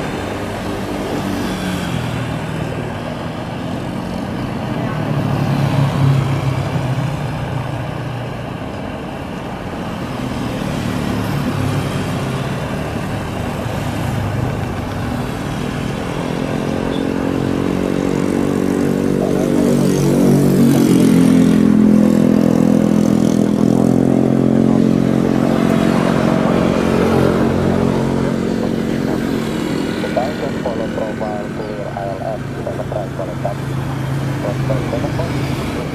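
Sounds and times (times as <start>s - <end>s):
vehicle engine passing by: 0.0s - 8.2s, 10.0s - 35.9s.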